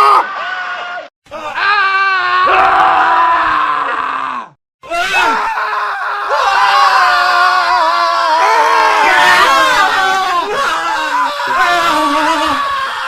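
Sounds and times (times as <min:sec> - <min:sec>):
men screaming: 0:00.0 - 0:13.0.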